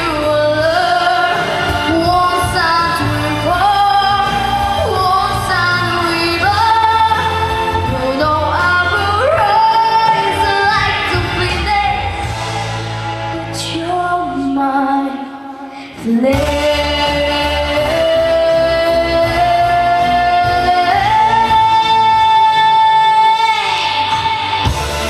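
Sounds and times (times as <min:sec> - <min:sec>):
woman singing: 0:00.0 - 0:12.4, 0:13.3 - 0:24.8
backing music: 0:00.0 - 0:25.0.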